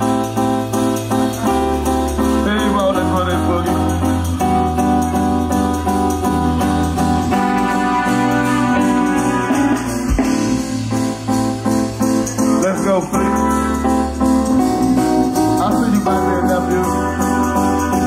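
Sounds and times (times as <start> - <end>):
bass line: 0.0 - 18.0
sustained keyboard chords: 0.0 - 18.0.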